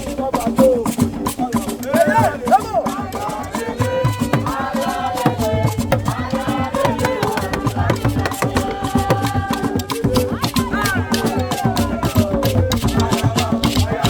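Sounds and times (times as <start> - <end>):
afrobeat music: 0.0 - 14.0.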